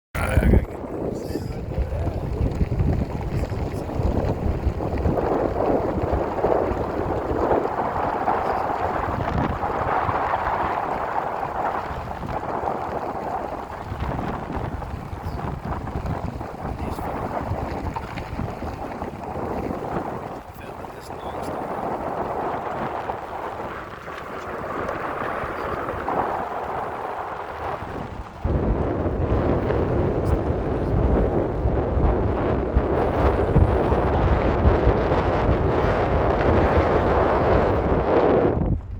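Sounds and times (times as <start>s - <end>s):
wind buffeting microphone: 0.2s - 38.9s.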